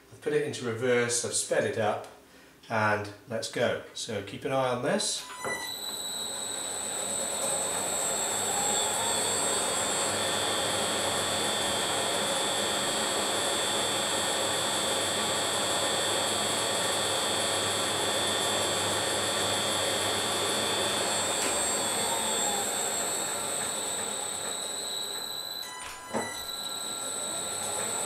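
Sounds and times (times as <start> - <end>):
lathe motor and gearing whine: 5.3 - 28.0.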